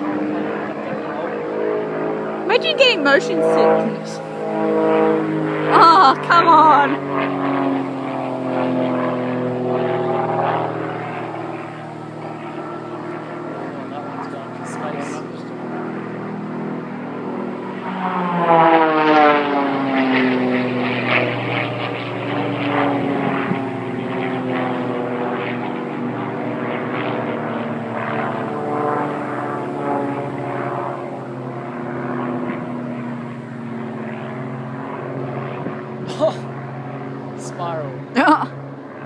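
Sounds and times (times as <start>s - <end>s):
propeller aircraft flying overhead: 0.0s - 39.0s.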